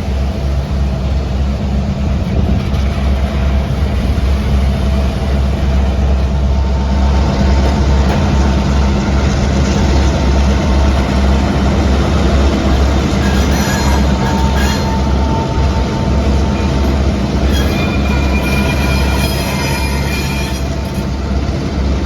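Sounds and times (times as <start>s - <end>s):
diesel locomotive droning: 0.0s - 22.0s.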